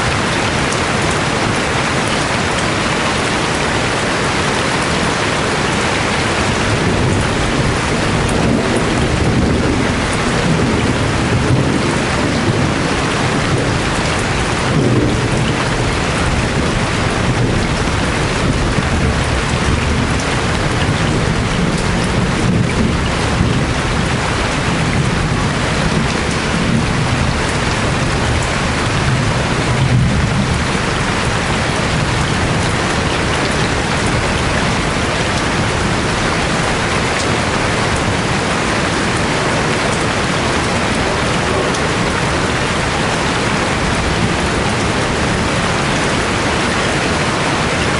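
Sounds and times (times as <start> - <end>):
heavy rain pattering: 0.0 - 47.9
thunder rumbling: 0.0 - 47.9.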